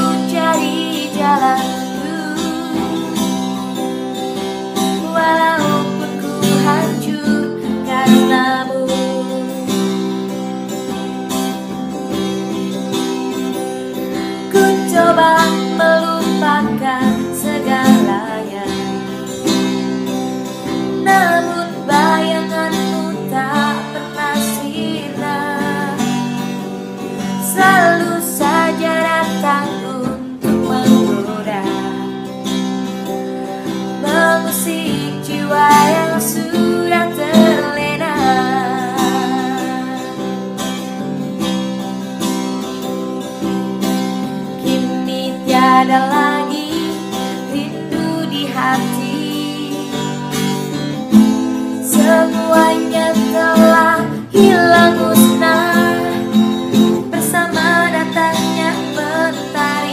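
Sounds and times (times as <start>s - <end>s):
person singing: 0.0s - 10.3s, 14.4s - 19.8s, 20.8s - 26.6s, 27.2s - 32.3s, 33.6s - 40.6s, 44.6s - 50.9s, 51.7s - 59.9s
acoustic guitar strumming: 0.0s - 59.9s.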